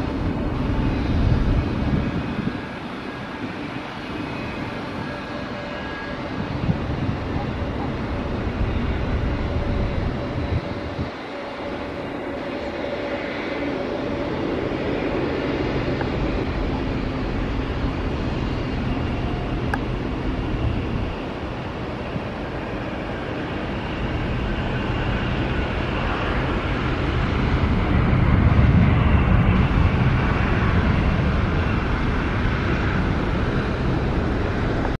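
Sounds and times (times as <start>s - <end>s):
jet engines rumbling and roaring: 0.0s - 35.0s.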